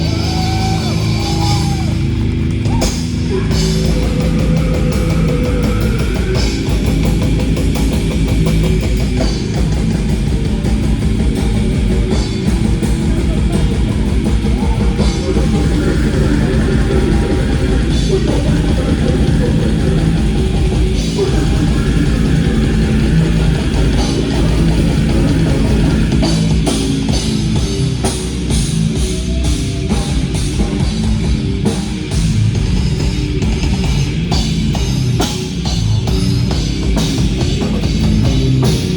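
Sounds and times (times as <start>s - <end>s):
heavy metal band playing: 0.0s - 38.9s.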